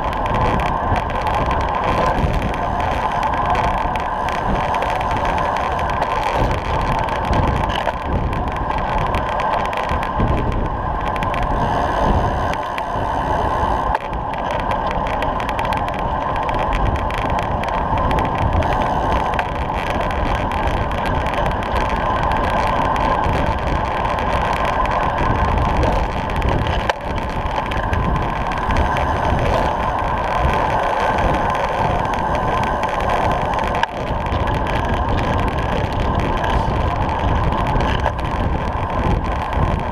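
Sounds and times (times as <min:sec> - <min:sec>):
bicycle tyre noise: 0:00.0 - 0:39.9
wind buffeting microphone: 0:00.0 - 0:39.9.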